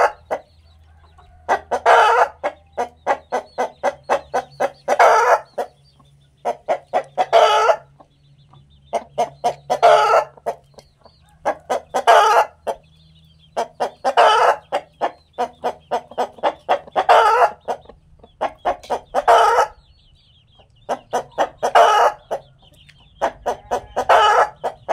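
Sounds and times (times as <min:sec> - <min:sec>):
rooster clucking: 0:00.0 - 0:12.9, 0:13.5 - 0:19.9, 0:20.6 - 0:24.9.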